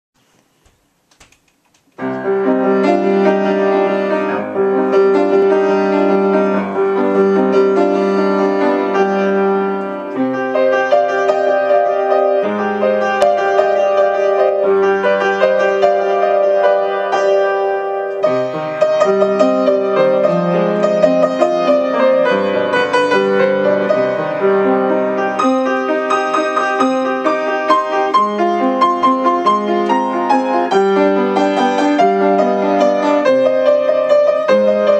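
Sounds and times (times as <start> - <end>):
upright piano playing chords: 2.0 - 34.9.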